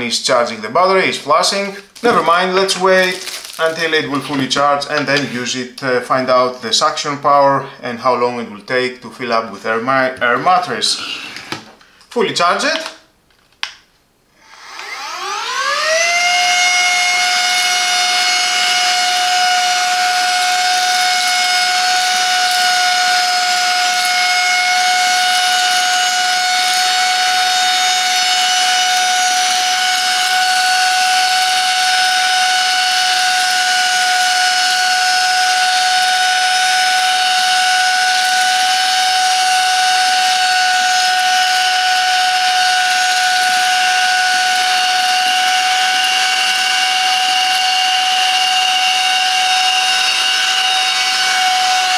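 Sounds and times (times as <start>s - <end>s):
handheld vacuum cleaner whining: 0.8s - 5.6s, 10.2s - 11.8s, 14.4s - 51.9s.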